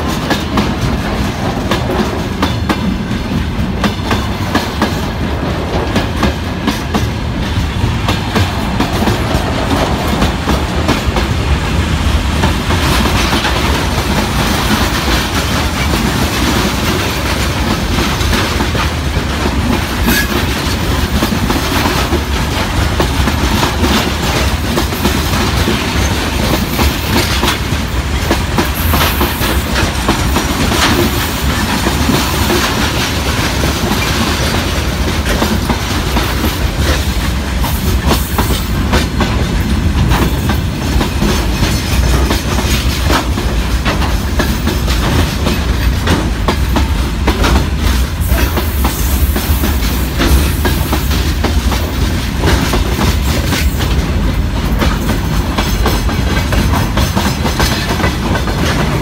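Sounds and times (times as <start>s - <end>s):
freight train wheels clattering: 0.0s - 59.0s
rumble of train cars: 0.0s - 59.0s.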